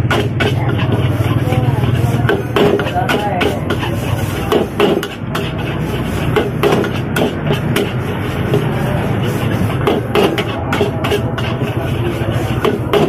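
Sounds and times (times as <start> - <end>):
spatula clanking in wok: 0.0 - 13.0.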